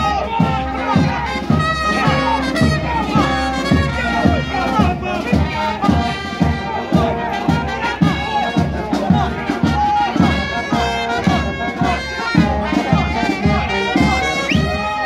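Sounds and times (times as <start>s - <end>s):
brass band playing: 0.0s - 15.0s
crowd noise: 0.0s - 15.0s
steady drum beat: 0.0s - 15.0s.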